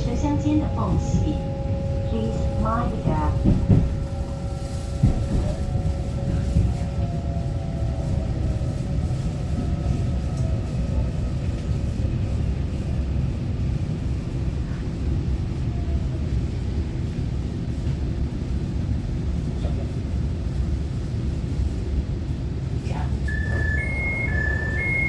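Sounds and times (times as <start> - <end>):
wheels rumbling on track: 0.0 - 25.0.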